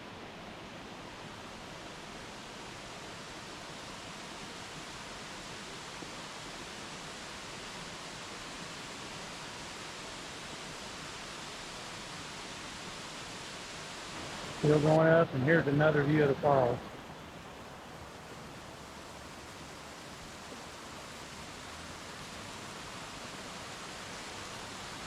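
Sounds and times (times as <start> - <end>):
water pouring down a cascade: 0.4 - 25.0.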